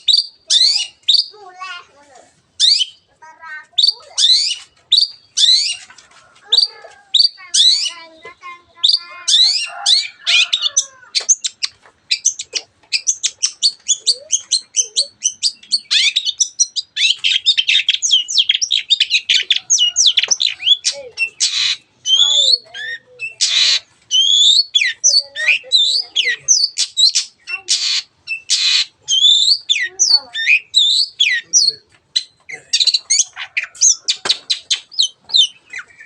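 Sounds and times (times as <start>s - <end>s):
shrike singing: 6.5s - 36.0s.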